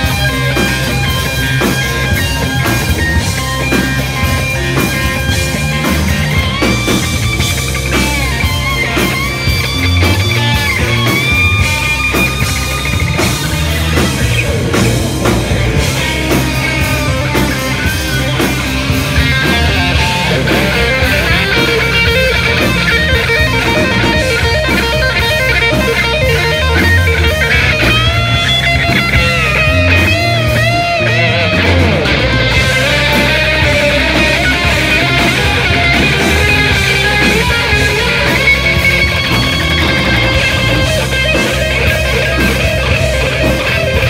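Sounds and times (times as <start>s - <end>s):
electric guitar solo: 0.0s - 44.0s
rock band playing: 0.0s - 44.0s.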